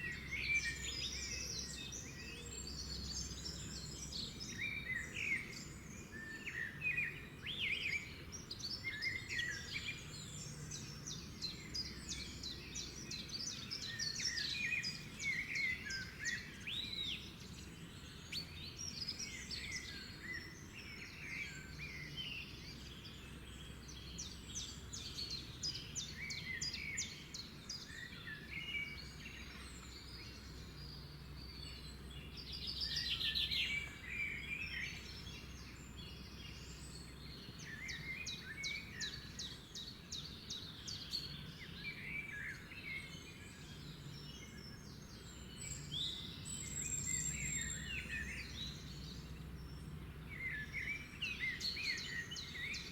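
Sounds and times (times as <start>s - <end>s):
songbirds singing and calling: 0.0s - 52.9s.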